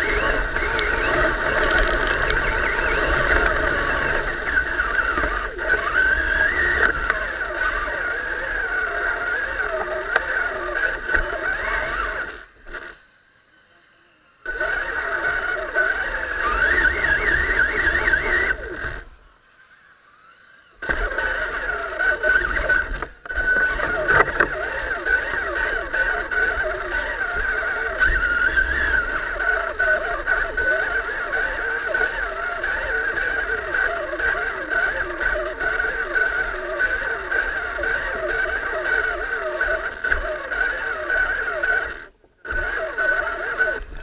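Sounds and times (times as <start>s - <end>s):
rc truck motor whine: 0.0s - 44.0s.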